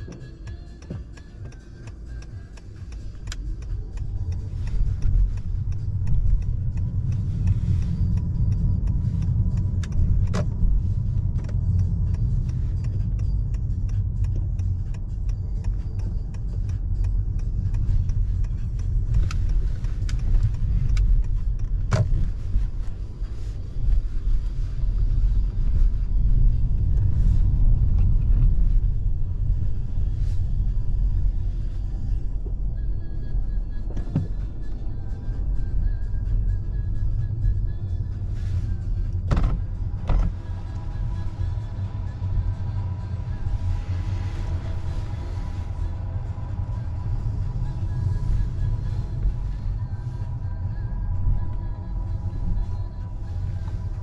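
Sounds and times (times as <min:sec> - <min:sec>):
car driving heard inside cabin: 0:00.0 - 0:54.0.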